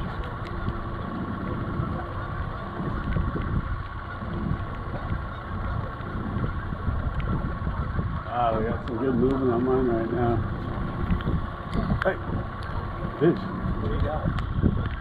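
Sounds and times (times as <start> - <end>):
outboard motor humming: 0.0 - 15.0
water noise: 0.0 - 15.0
wind rumbling: 0.0 - 15.0.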